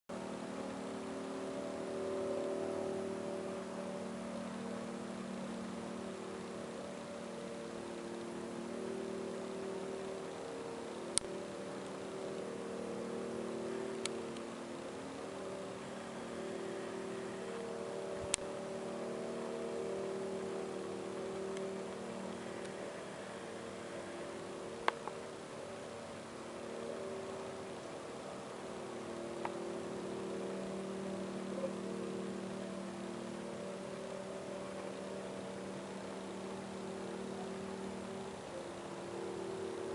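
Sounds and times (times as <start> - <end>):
distant droning hum: 0.1 - 39.9.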